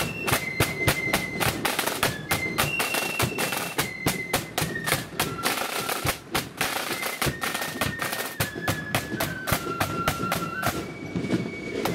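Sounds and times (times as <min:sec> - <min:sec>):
faint high flute melody: 0:00.0 - 0:11.9
marching snare and bass drums: 0:00.0 - 0:11.9.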